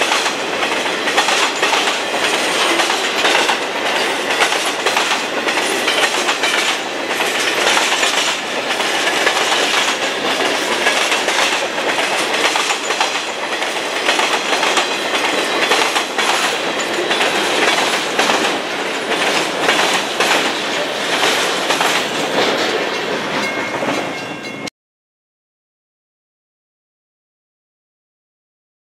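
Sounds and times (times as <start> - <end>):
train rumble: 0.0 - 24.7
train wheels clickety-clack: 0.0 - 24.7.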